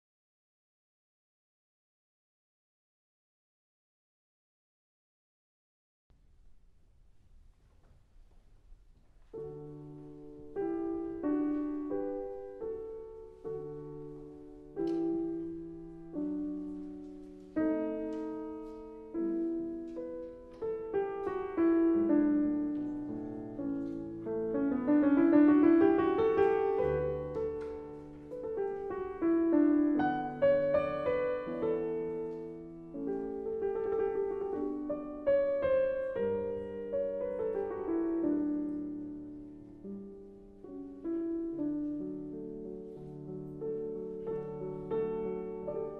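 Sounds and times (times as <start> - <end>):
solo piano music: 8.6 - 45.9.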